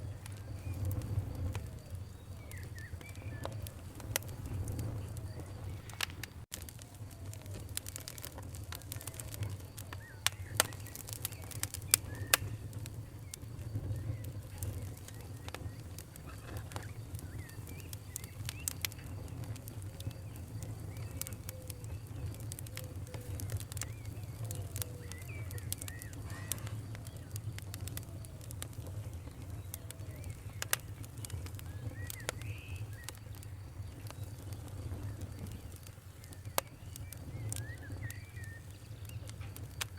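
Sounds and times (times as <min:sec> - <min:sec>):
birds chirping: 0:00.0 - 0:06.4, 0:07.1 - 0:39.9
campfire crackling and popping: 0:00.0 - 0:39.9
low rumble of flames: 0:00.0 - 0:39.9.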